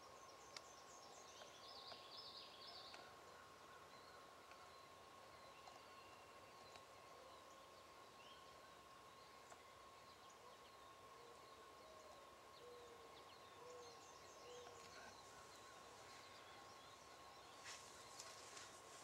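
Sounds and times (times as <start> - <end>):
distant bird chirps: 0.0 - 19.0.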